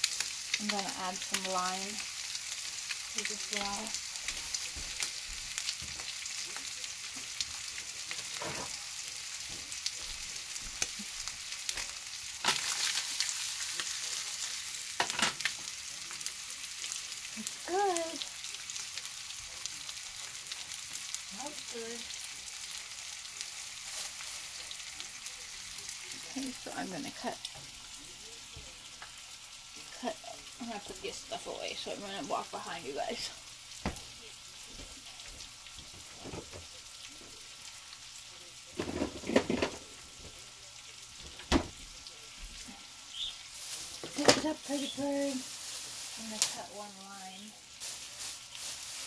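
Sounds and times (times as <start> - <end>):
fish sizzling in butter: 0.0 - 49.0.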